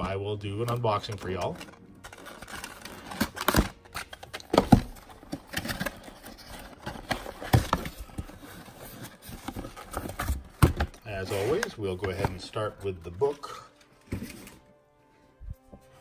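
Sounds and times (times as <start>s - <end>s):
cardboard rustling and scraping: 0.0s - 14.8s.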